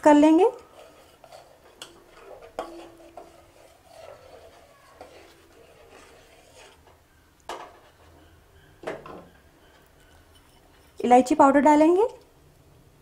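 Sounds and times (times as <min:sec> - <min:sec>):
spoon stirring in metal pot: 0:00.2 - 0:12.4.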